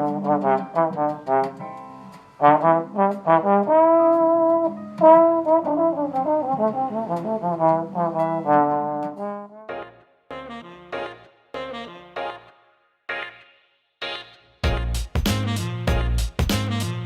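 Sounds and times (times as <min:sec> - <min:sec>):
trombone and trumpet tune: 0:00.0 - 0:01.8, 0:02.4 - 0:12.5, 0:14.2 - 0:17.0.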